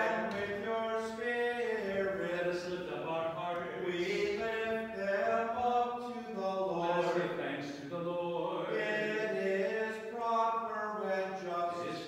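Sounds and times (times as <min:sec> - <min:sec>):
man chanting prayer: 0:00.0 - 0:12.0.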